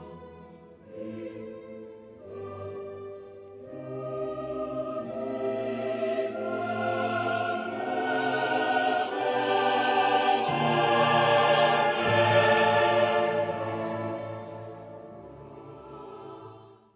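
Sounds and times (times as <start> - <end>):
orchestral choral music: 0.0 - 16.9.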